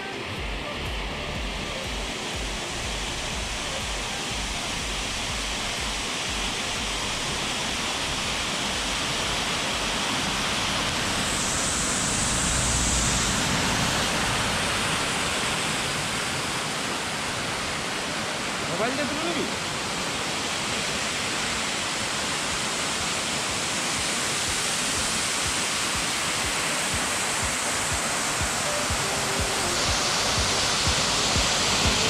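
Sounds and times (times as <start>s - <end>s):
small waterfall splashing: 0.0s - 32.0s.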